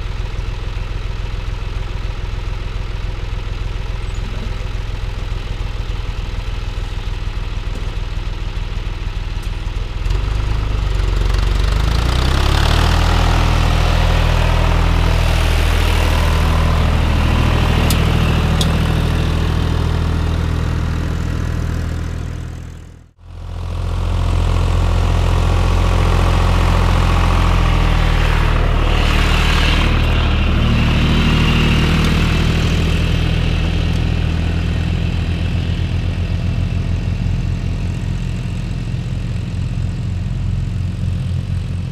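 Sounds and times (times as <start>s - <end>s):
tractor diesel engine: 0.0s - 41.9s.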